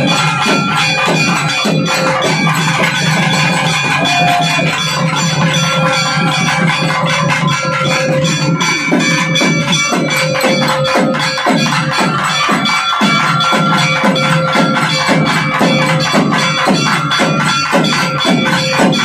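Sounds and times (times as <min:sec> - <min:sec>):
barrel drums beaten fast: 0:00.0 - 0:19.0.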